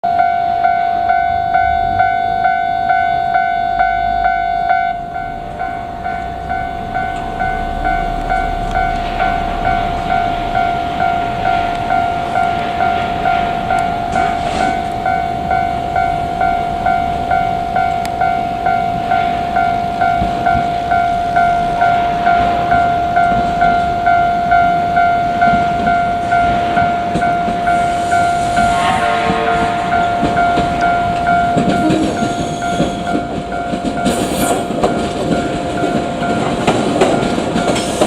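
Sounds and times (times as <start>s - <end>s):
electric train passing: 0.0s - 38.0s
level crossing warning bell: 0.0s - 38.0s.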